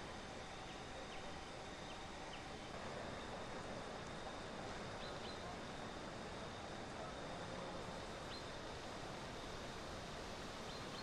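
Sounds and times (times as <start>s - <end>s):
steady hiss: 1.2s - 11.0s.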